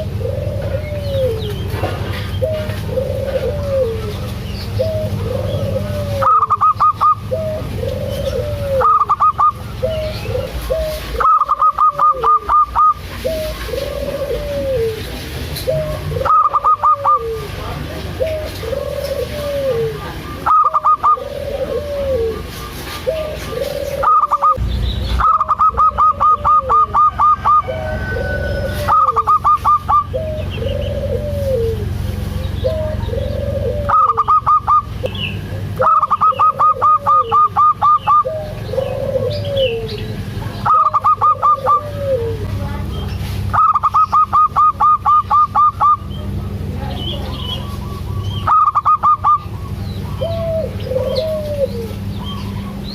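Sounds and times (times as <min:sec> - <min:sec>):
dove cooing: 0:00.0 - 0:24.6, 0:25.2 - 0:52.9.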